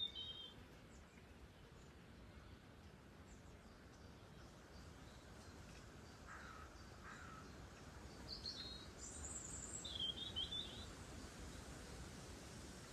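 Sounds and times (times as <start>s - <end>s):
faint birdsong: 0.0s - 11.7s.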